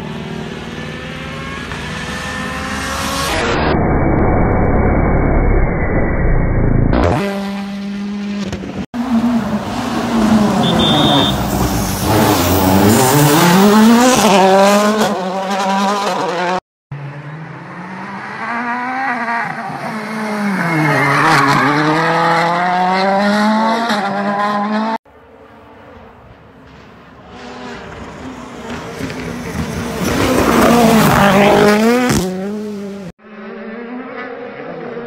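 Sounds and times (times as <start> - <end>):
rally car engines revving hard: 0.0 - 3.3, 6.9 - 25.0, 27.3 - 35.0.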